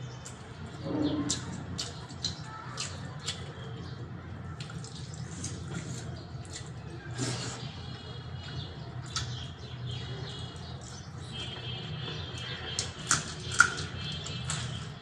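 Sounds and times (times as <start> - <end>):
fingers squelching wet food: 0.0 - 15.0.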